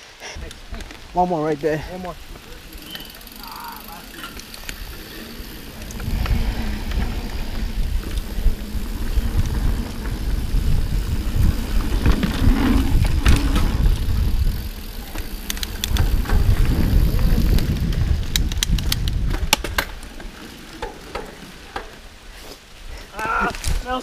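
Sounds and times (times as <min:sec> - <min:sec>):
wind and tyre rumble: 0:00.0 - 0:24.0
bike rattling and clicking: 0:00.4 - 0:22.2.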